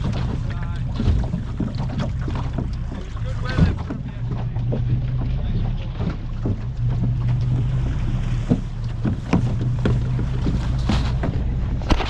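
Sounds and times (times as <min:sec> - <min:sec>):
irregular knocks: 0:00.0 - 0:12.0
motor boat engine running: 0:00.0 - 0:12.0.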